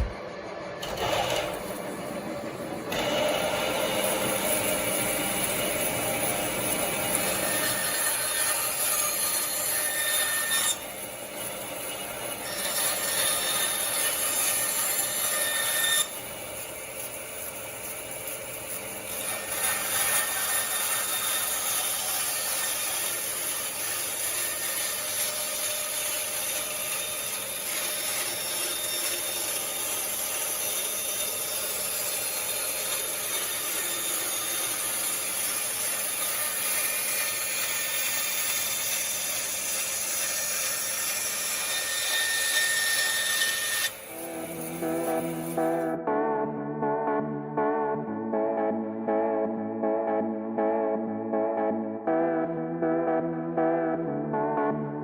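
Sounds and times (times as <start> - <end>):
band saw cutting wood: 0.8 - 46.0.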